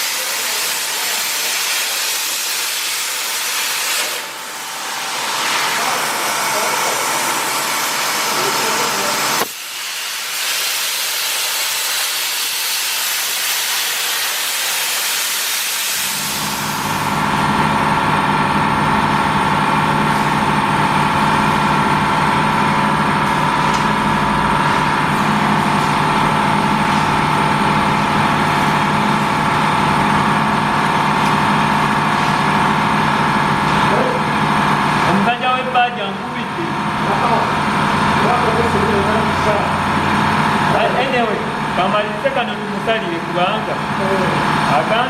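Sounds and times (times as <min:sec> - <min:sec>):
workshop machine hum and whine: 0:00.0 - 0:45.0.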